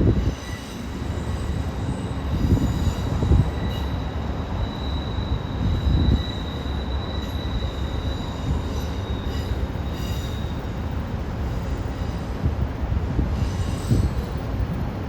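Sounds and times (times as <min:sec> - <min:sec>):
wheels squealing on rails: 0:00.0 - 0:14.7
train rumbling past: 0:00.0 - 0:15.0.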